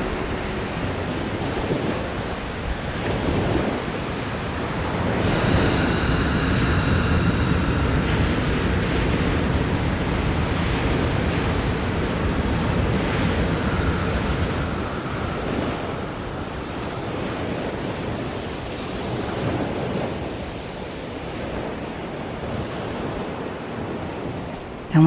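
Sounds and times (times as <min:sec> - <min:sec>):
waves breaking and washing in: 0:00.0 - 0:25.0
wind: 0:00.0 - 0:25.0.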